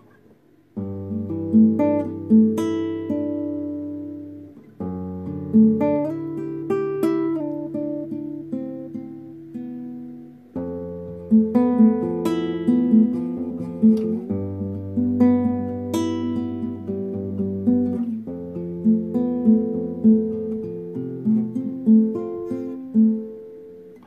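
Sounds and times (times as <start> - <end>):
classical guitar fingerstyle: 0.0 - 24.0.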